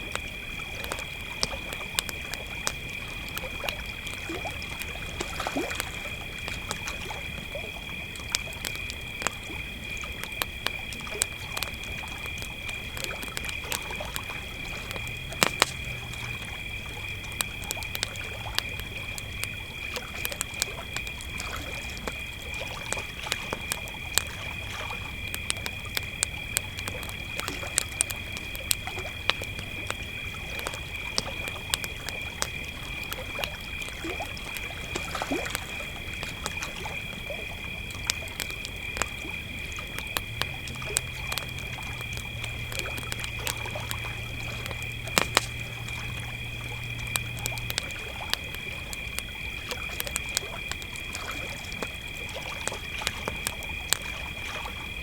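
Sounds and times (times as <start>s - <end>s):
crickets chirping: 0.0s - 55.0s
wood campfire crackling: 0.0s - 55.0s.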